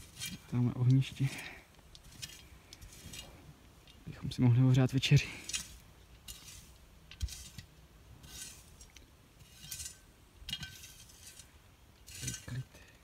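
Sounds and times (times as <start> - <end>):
soft scrapes and rustles: 0.0 - 13.0.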